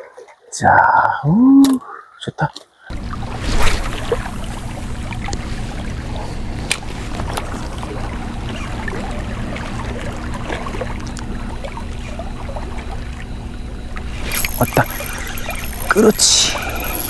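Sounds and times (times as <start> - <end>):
low motor hum: 2.9 - 17.0.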